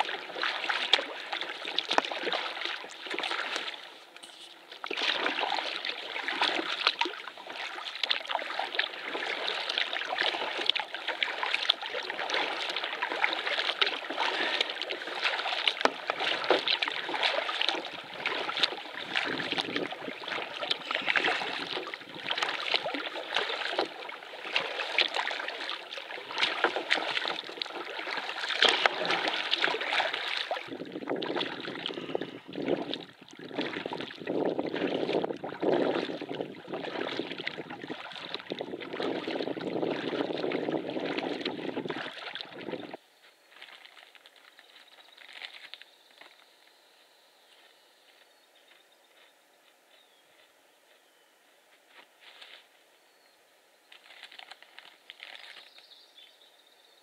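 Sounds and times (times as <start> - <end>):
water splashing around canoe: 0.0 - 46.4, 54.0 - 55.8.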